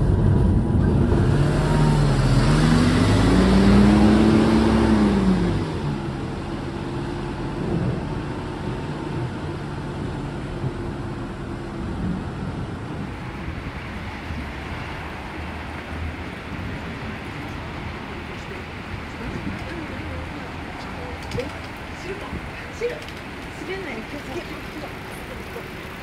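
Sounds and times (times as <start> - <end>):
bus engine accelerating: 0.0 - 26.0.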